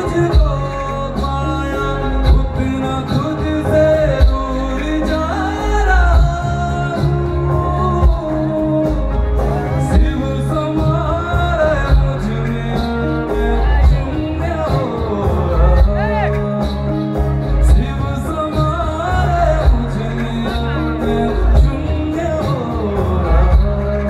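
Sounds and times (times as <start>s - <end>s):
amplified band playing: 0.0s - 24.0s
man singing: 0.0s - 24.0s.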